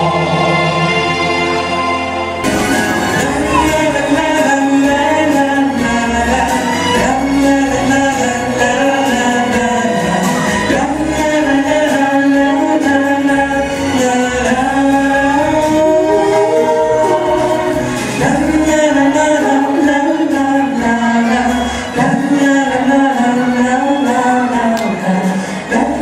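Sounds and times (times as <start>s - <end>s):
musical backing: 0.0s - 26.0s
person singing slow ballad: 2.4s - 26.0s.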